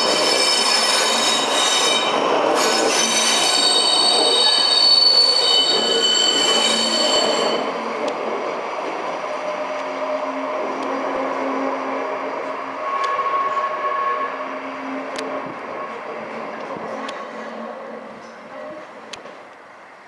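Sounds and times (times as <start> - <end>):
wheels squealing on rails: 0.0 - 8.3, 8.9 - 19.4.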